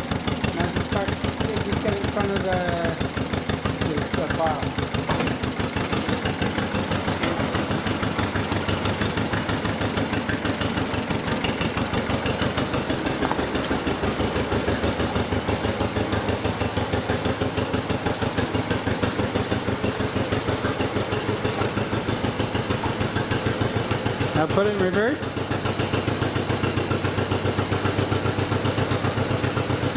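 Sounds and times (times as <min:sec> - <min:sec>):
tractor engine putt-putt: 0:00.0 - 0:29.9.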